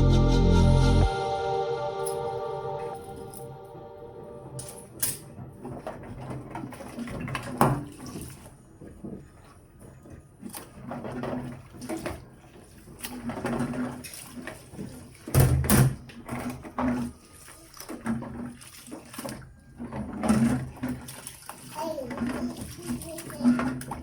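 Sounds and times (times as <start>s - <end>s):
water running at sink: 4.6s - 24.0s.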